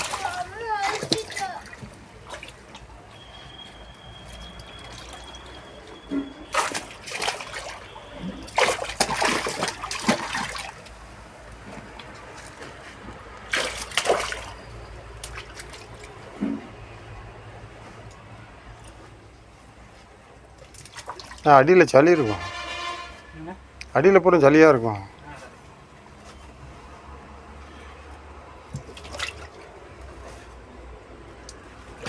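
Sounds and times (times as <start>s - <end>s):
water splashing: 0.0s - 22.6s, 28.3s - 32.0s.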